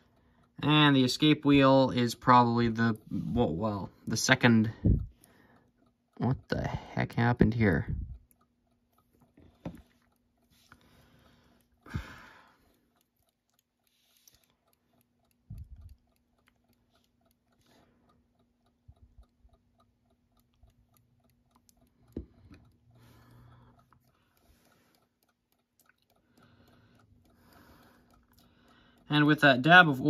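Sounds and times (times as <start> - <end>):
clock ticking faintly: 0.0 - 30.0.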